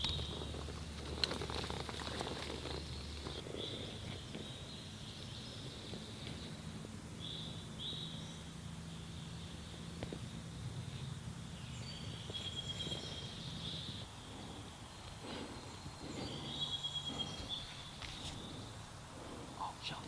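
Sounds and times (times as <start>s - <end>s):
birds singing: 0.0s - 20.0s
low background hum: 0.0s - 20.0s.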